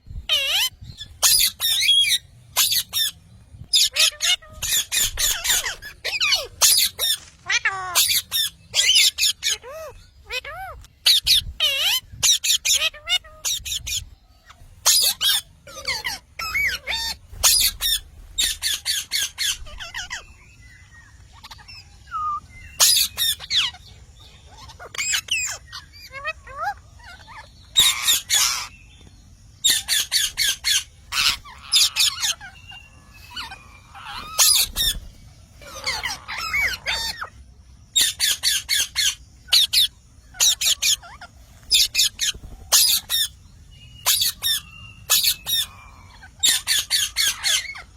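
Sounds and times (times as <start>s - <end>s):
parrot chattering calls: 0.3s - 20.3s, 21.3s - 28.7s, 29.6s - 35.0s, 35.6s - 37.4s, 38.0s - 43.4s, 44.0s - 47.9s
parrot squawking: 0.3s - 20.4s, 21.3s - 28.7s, 29.6s - 37.4s, 38.0s - 43.4s, 44.0s - 47.9s.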